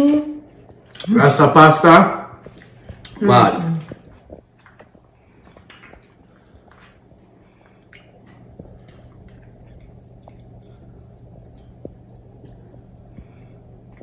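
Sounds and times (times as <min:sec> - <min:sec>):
soft chewing: 0:02.4 - 0:14.0.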